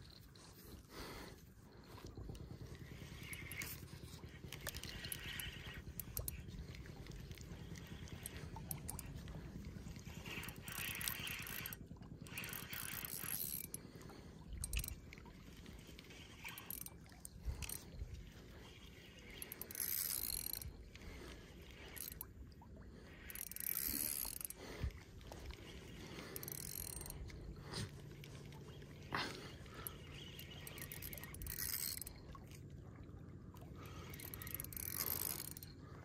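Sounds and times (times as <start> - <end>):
fishing reel whirring and clicking: 0.0 - 32.8, 33.4 - 36.0.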